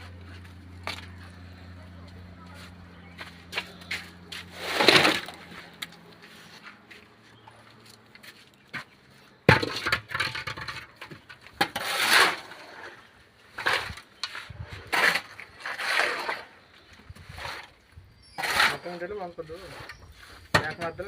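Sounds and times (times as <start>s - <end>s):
construction scraping and clattering: 0.0s - 21.0s.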